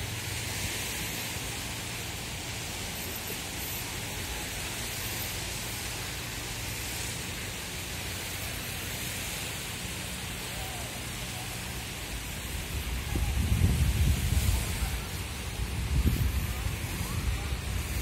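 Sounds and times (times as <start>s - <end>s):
breeze: 0.0s - 18.0s
faint distant voices: 0.0s - 18.0s
small waves: 0.0s - 18.0s.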